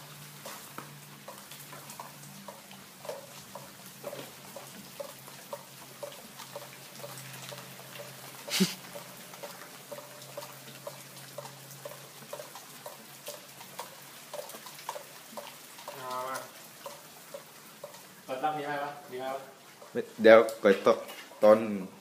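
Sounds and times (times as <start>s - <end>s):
water dripping: 0.0s - 22.0s.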